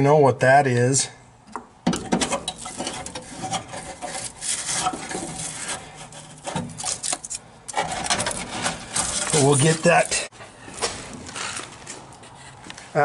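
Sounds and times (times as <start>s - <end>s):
hand scraping dirt and debris: 2.4s - 13.0s.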